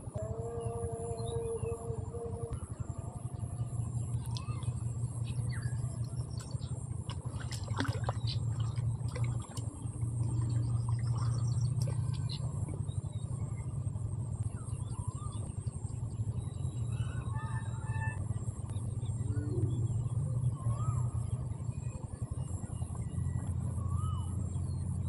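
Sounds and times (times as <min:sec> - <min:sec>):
faint high whine: 0:00.0 - 0:25.0
steady low hum: 0:00.0 - 0:25.0.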